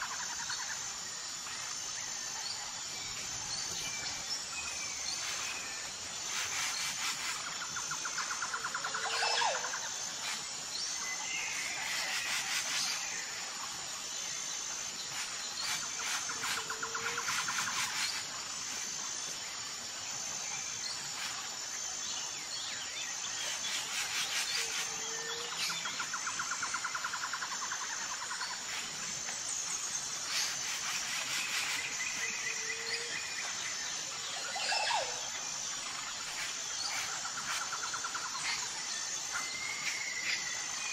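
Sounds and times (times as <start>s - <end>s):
high insect trill: 0.0s - 40.9s.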